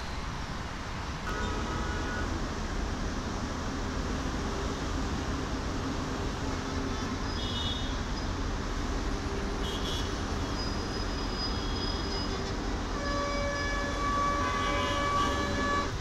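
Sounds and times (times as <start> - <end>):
train rumble and hiss: 0.0 - 16.0.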